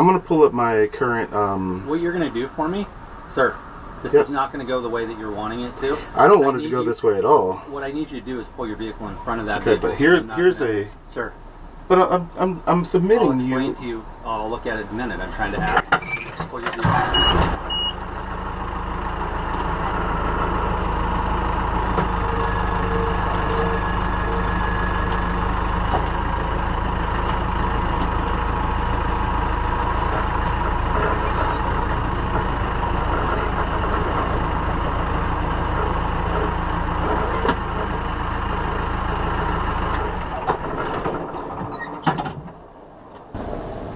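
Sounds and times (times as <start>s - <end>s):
diesel truck engine running: 0.0s - 43.9s.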